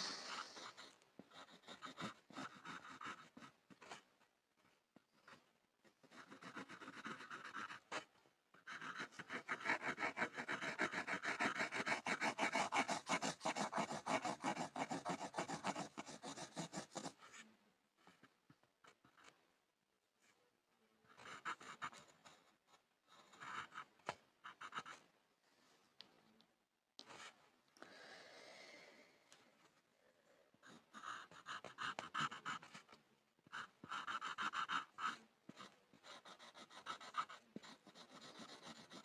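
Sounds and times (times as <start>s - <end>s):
pencil scribbling on wood: 0.0s - 19.3s, 21.1s - 25.1s, 30.6s - 39.0s.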